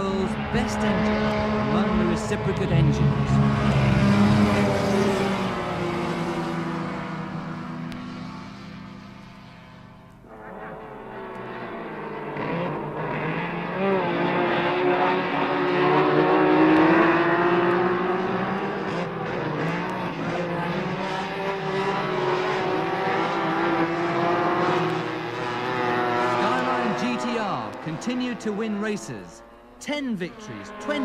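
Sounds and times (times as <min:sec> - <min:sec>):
racing car engines passing: 0:00.0 - 0:31.0.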